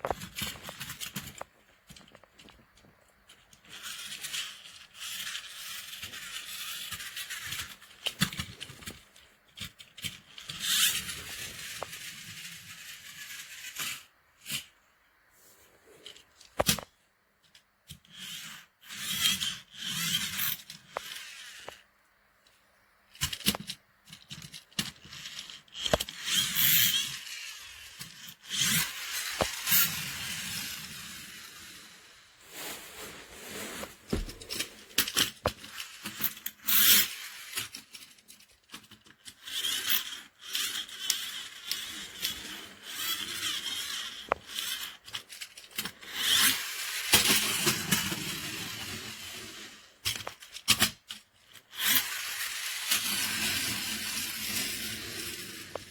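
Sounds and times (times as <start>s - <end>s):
toy trucks scraping and rubbing: 0.0s - 14.8s, 15.4s - 16.9s, 17.5s - 21.9s, 23.2s - 55.9s.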